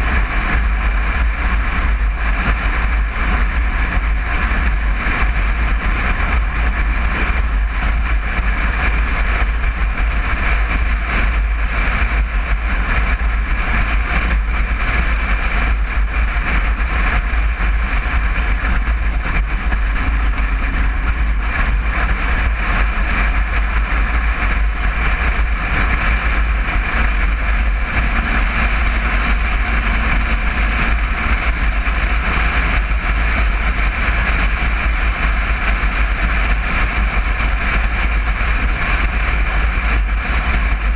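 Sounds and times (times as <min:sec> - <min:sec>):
van engine running while driving: 0:00.0 - 0:40.9.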